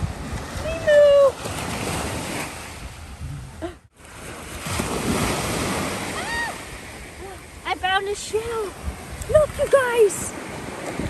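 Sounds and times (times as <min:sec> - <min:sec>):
ocean surf washing in: 0:00.0 - 0:11.0
wind buffeting microphone: 0:00.0 - 0:11.0.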